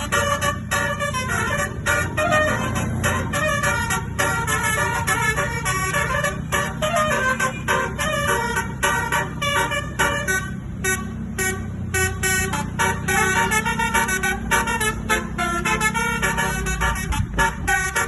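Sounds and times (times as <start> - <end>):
bus engine running: 0.0 - 18.0
bus horn playing quick tune: 0.0 - 18.0.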